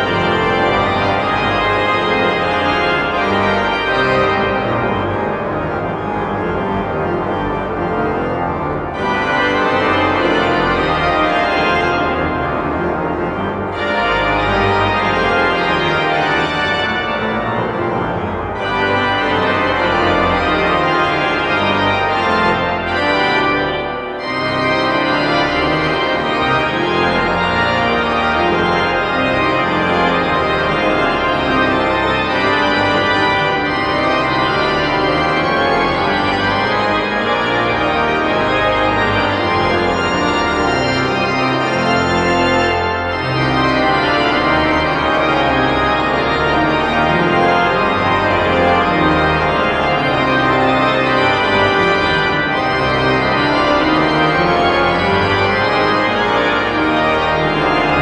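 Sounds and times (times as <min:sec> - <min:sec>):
pipe organ playing chords: 0:00.0 - 0:58.0.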